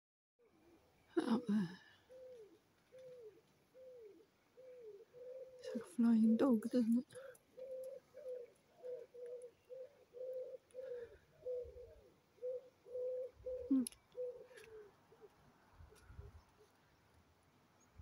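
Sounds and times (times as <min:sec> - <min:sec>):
pigeon cooing: 0:00.4 - 0:16.7.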